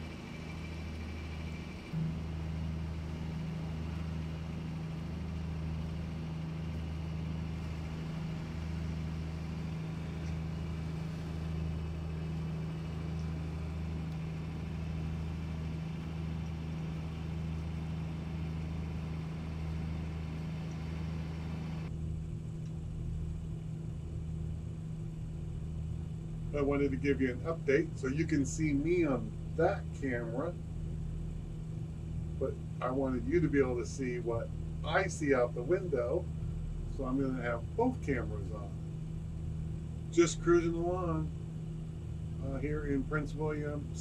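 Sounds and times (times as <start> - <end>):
diesel engine drone: 0.0 - 44.0.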